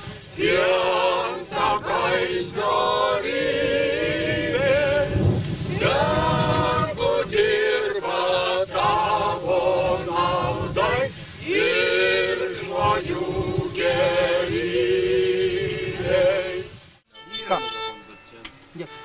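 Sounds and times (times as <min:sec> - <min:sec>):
crowd singing together: 0:00.0 - 0:17.0.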